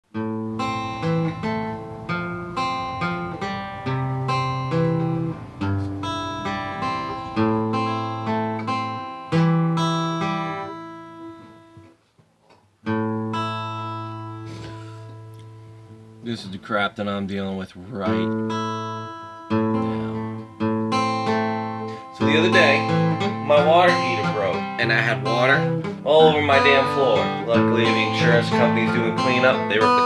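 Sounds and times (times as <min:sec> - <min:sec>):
acoustic guitar chords: 0:00.1 - 0:12.1, 0:12.8 - 0:30.0.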